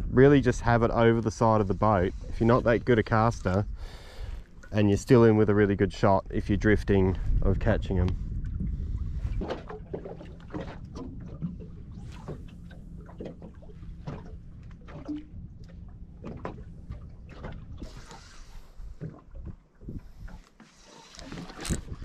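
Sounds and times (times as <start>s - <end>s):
low steady hum: 0.0s - 22.0s
waves lapping against boat hull: 0.0s - 22.0s.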